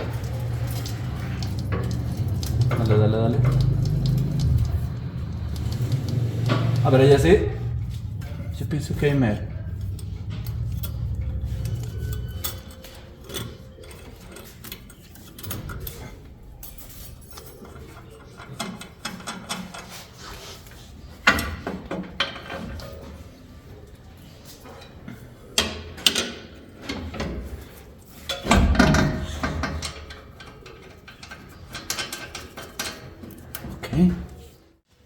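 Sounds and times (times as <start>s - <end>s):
metal parts clanking and knocking: 0.0s - 20.5s, 21.2s - 23.3s, 25.6s - 34.6s
metal rattling clatter: 0.0s - 20.5s, 25.6s - 34.4s.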